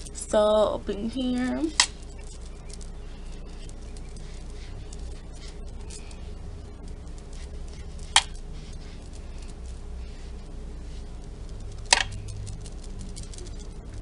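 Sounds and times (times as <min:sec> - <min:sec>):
makeup brush brushing: 0:00.0 - 0:14.0
steady low hum: 0:00.0 - 0:14.0.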